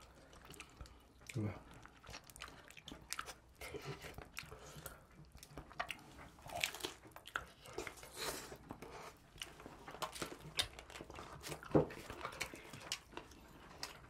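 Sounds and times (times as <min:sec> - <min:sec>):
crunching and chewing pizza crust: 0:00.0 - 0:14.0.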